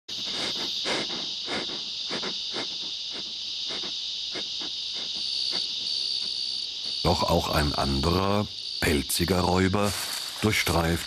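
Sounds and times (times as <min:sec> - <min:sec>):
high-pitched insect chorus: 0:00.1 - 0:11.0
pulsing insect trill: 0:00.1 - 0:11.0.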